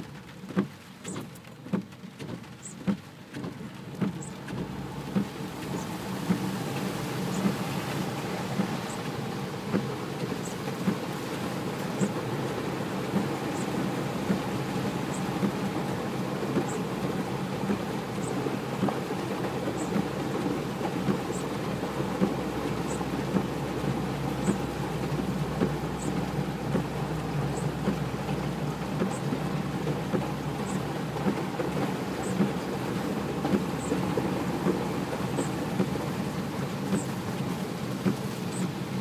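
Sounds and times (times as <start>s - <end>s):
car engine running: 0.0s - 39.0s
heavy rain on car roof: 0.0s - 39.0s
water swishing under wheels: 0.0s - 39.0s.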